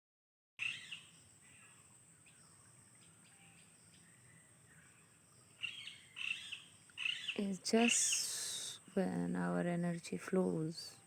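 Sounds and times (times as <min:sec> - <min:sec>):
birds chirping: 0:00.6 - 0:11.0.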